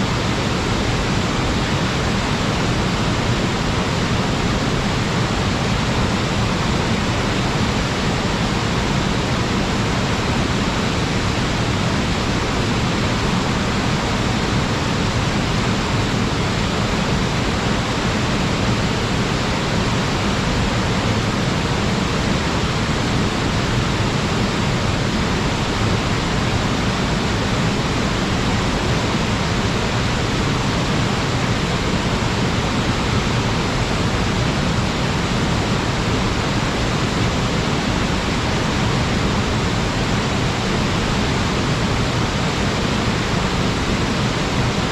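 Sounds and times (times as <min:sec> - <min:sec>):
waterfall rushing into pool: 0:00.0 - 0:44.9.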